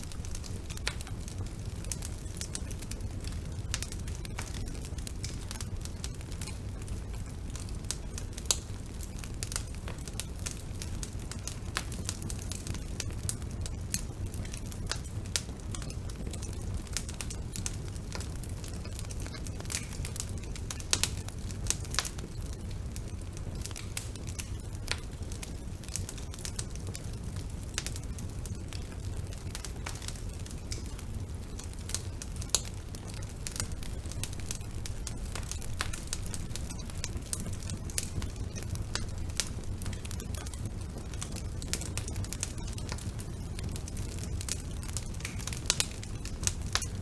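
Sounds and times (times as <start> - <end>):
fire rumbling and crackling: 0.0 - 47.0.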